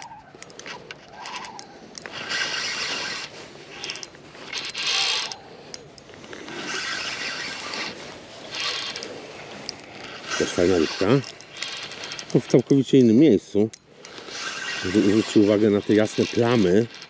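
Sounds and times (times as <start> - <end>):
fishing reel ratcheting whir: 0.0 - 17.0
reel clicks: 0.0 - 17.0.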